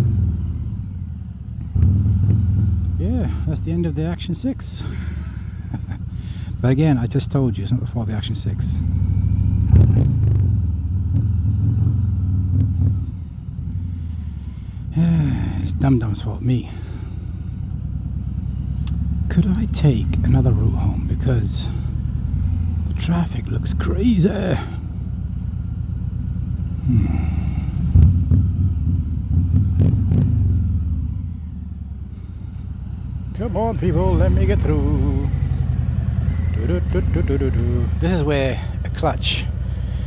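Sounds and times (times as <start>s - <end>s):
motorcycle engine low rumble: 0.0s - 40.0s.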